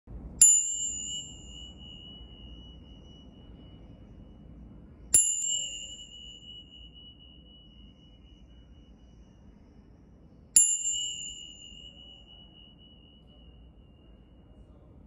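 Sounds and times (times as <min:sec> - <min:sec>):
small metal chime ringing: 0:00.4 - 0:14.8.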